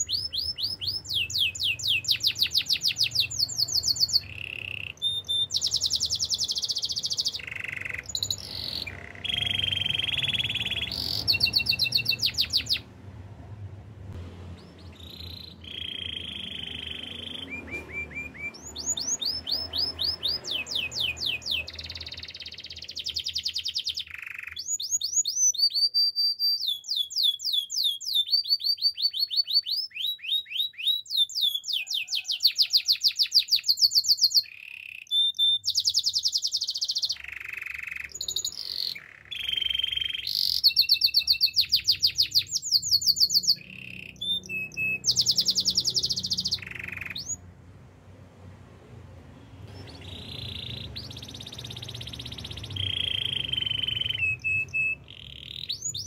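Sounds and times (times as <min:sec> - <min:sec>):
canary singing trills: 0:00.0 - 0:12.9, 0:14.5 - 0:47.5, 0:49.6 - 0:56.0.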